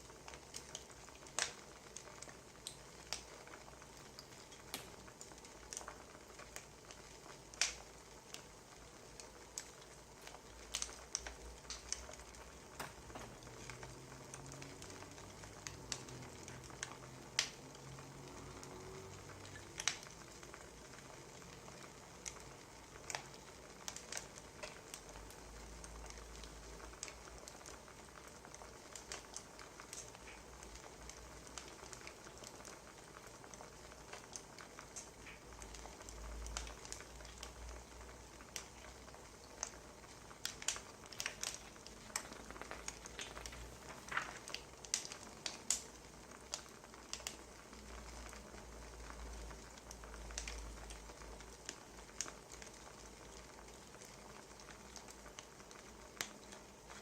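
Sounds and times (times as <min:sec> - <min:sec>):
faint steady hiss: 0:00.0 - 0:57.0
wood fire pops and snaps: 0:00.2 - 0:57.0.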